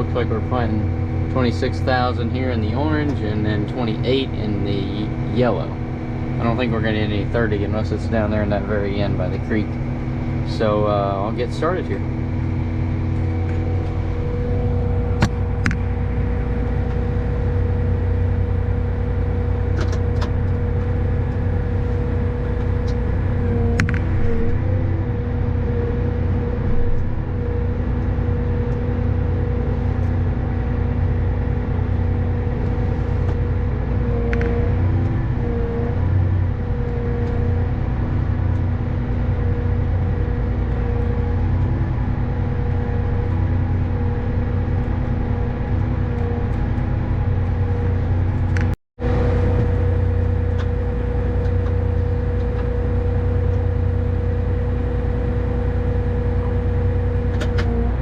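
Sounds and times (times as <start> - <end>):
steady engine whine: 0.0 - 58.0
tractor engine running under load: 0.0 - 58.0.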